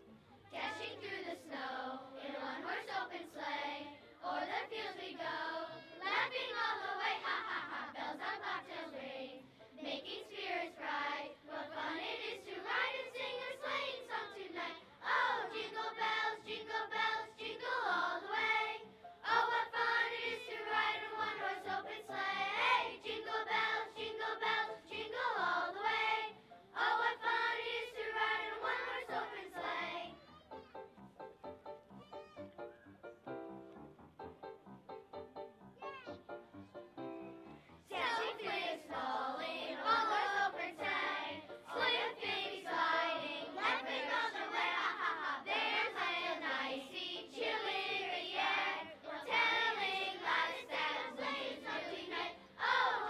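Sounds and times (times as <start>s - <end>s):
children's chorus singing: 0.5s - 30.2s, 37.8s - 53.0s.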